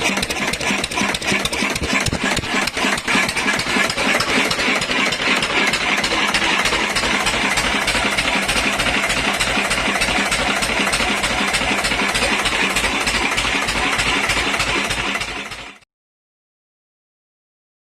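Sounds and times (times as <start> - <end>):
stationary engine running: 0.0 - 15.8.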